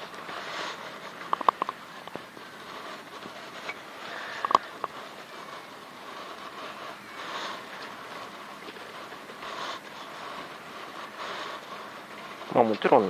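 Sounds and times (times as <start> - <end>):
knife shaving wood: 0.0 - 12.9.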